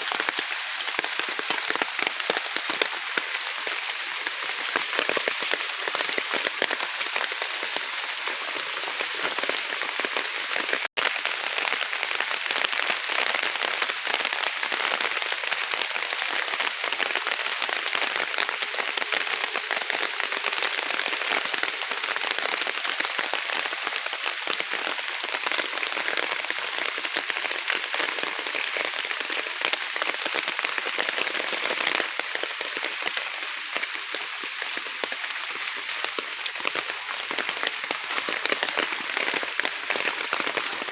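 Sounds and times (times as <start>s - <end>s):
rain falling in forest: 0.0s - 40.9s.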